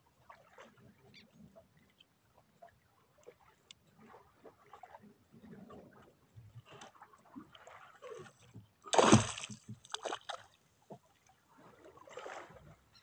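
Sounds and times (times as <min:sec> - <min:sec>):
water splashing against boat: 0:00.1 - 0:13.0.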